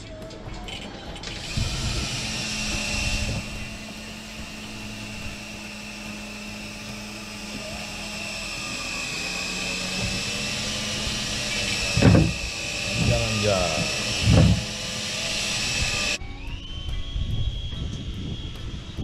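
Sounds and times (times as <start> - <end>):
boat machinery drone: 0.0 - 19.0
thin high whine: 1.3 - 19.0.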